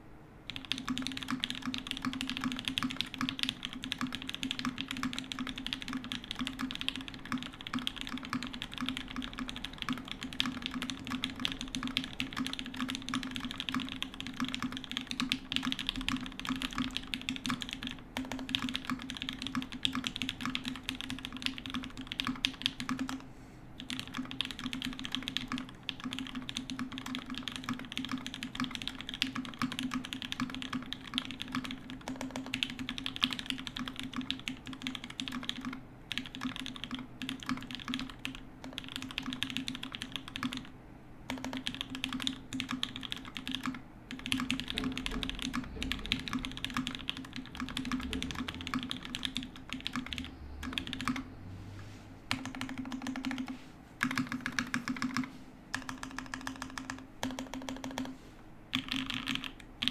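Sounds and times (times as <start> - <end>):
typing on mechanical keyboard: 0.5 - 40.7, 41.3 - 51.3, 52.3 - 59.9.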